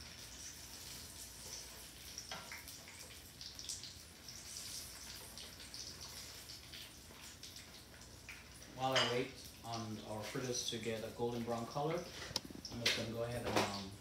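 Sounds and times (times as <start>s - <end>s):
food sizzling in oil: 0.0s - 14.0s
oil crackling and popping: 0.0s - 14.0s.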